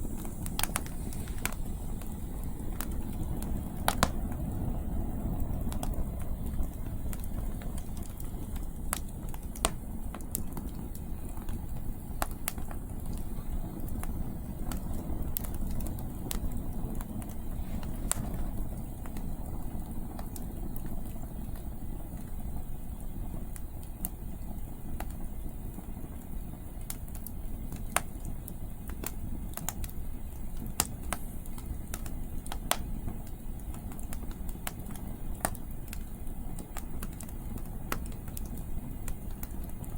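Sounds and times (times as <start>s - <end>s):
campfire crackling and popping: 0.0s - 39.9s
low rumble of wind: 0.0s - 39.9s.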